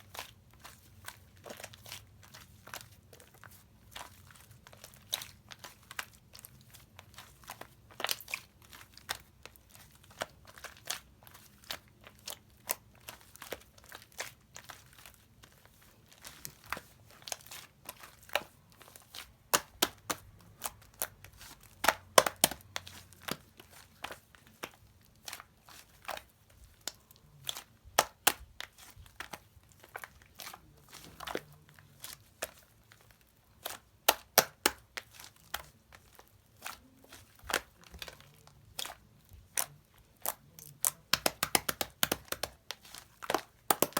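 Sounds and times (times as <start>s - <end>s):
slime squishing with clicks and pops: 0.1s - 43.9s.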